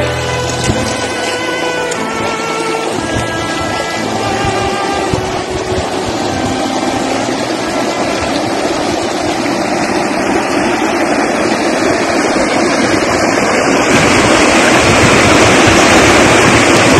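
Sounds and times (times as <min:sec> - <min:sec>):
boat engine: 0:00.0 - 0:16.9
water rushing and splashing: 0:00.0 - 0:16.9.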